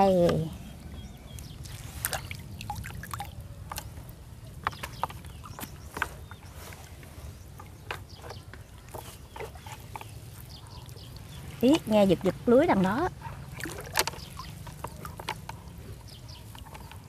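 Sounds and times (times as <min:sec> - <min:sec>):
water splashing and dripping: 0:01.3 - 0:06.4, 0:07.5 - 0:17.0.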